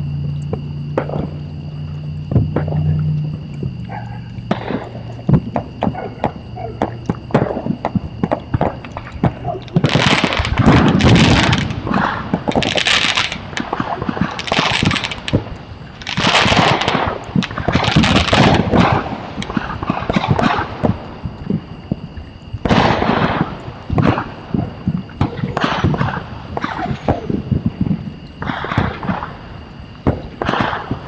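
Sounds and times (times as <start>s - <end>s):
fireworks crackling and popping: 4.4s - 22.0s, 22.6s - 31.0s.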